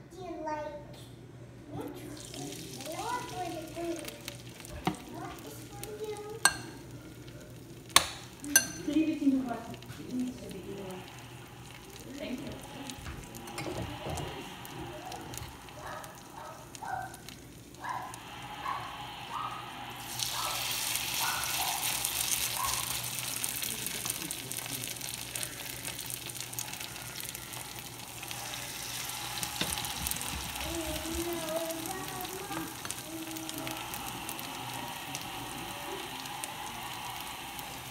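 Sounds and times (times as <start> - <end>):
potato cakes sizzling in oil: 2.0 - 37.9.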